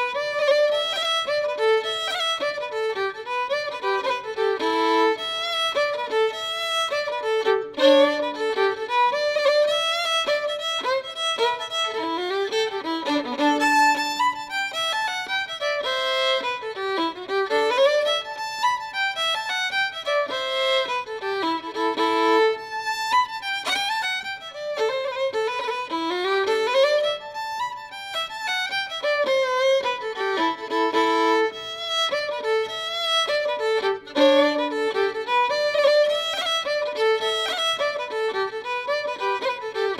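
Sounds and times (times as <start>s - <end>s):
fiddle playing quick melody: 0.0s - 39.9s.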